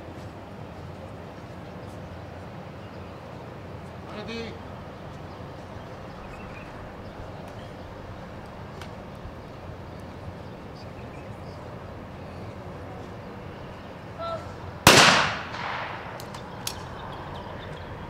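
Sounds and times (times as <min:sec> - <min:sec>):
low outdoor background noise: 0:00.0 - 0:18.0.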